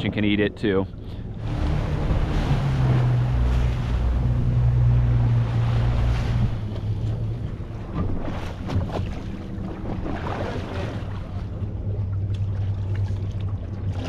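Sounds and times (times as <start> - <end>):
boat engine humming: 0.0 - 14.0
water rushing: 0.0 - 14.0.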